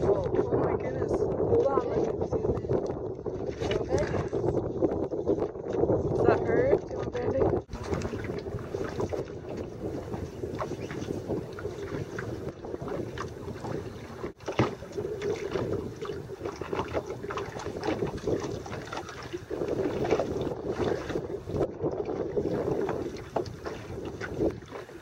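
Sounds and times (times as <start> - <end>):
water slapping against hull: 0.0 - 25.0
wind buffeting microphone: 0.0 - 25.0.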